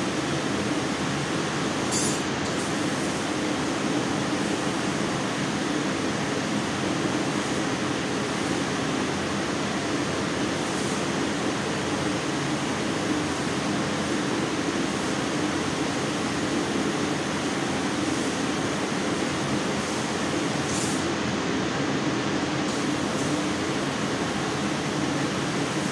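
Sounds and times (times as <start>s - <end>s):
laser cutting machine hiss and hum: 0.0s - 25.9s.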